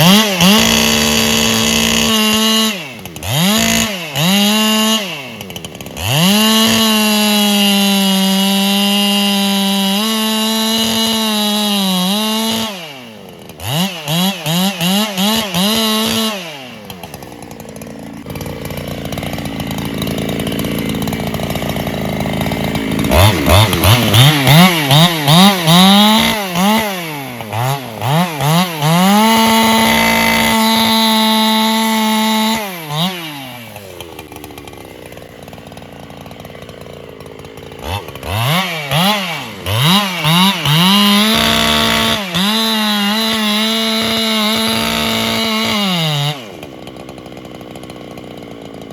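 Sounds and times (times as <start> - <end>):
chainsaw cutting and revving: 0.0 - 48.9.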